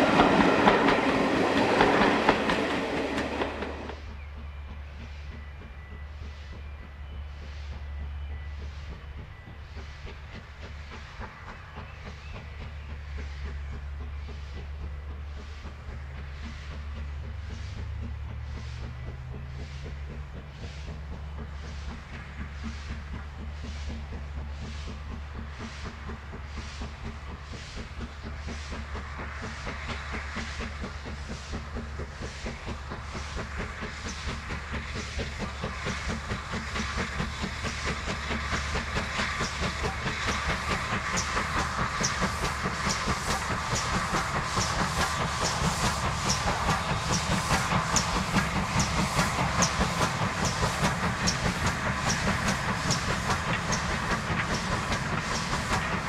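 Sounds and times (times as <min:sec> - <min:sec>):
wheels clattering on rails: 0:00.0 - 0:07.3, 0:08.6 - 0:56.0
steam hissing: 0:00.0 - 0:56.0
steam locomotive exhaust beats: 0:00.0 - 0:56.0.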